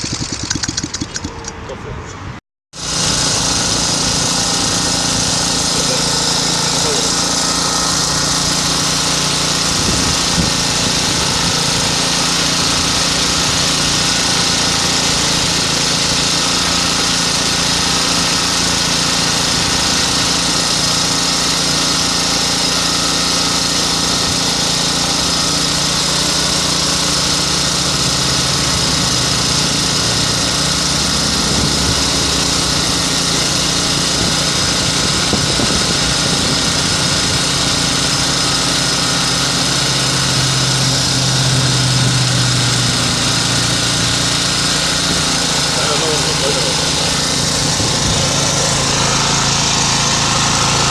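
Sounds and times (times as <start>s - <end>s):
generator engine running: 0.0s - 50.9s.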